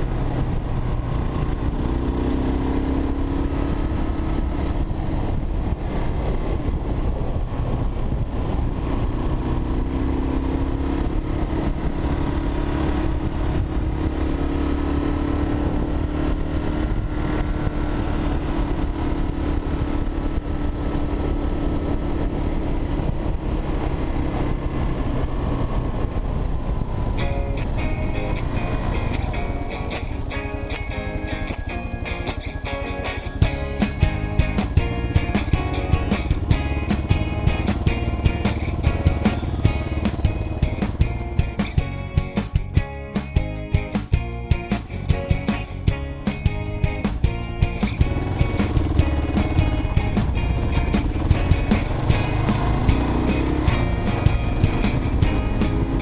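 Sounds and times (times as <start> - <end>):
low wind rumble: 0.0 - 56.0
motorcycle engine cruising: 0.0 - 56.0.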